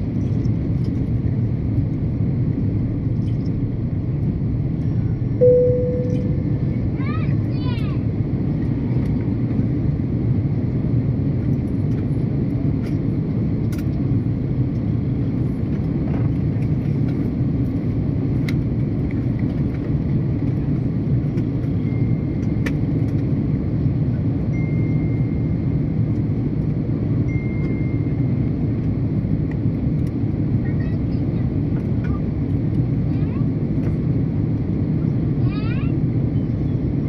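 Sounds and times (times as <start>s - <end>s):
airplane cabin engine rumble: 0.0s - 37.0s.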